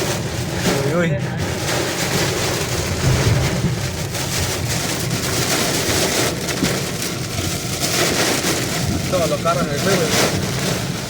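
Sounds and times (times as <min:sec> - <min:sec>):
heavy rain: 0:00.0 - 0:11.0
strong wind: 0:00.0 - 0:11.0.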